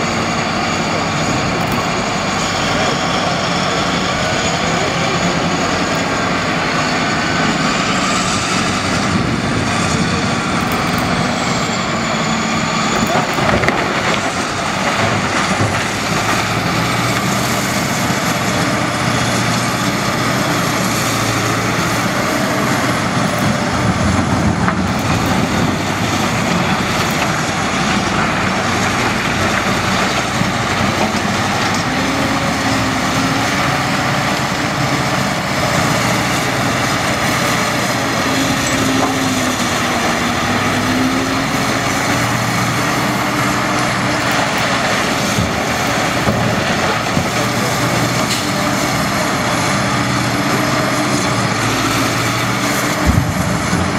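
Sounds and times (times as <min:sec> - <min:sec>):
haul truck diesel engine: 0:00.0 - 0:53.9
wheel loader diesel engine: 0:00.0 - 0:53.9.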